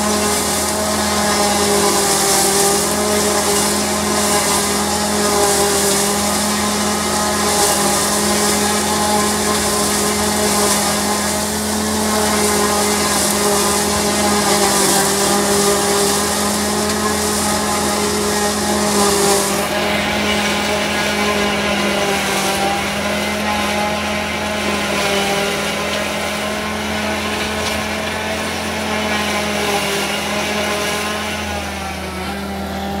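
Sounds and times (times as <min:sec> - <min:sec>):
forage harvester rushing hiss: 0:00.0 - 0:29.1
tractor engine running under load: 0:00.0 - 0:33.0.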